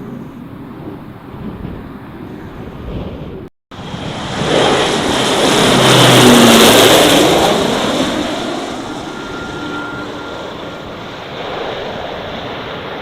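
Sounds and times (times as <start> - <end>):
light aircraft passing: 0.0 - 13.0.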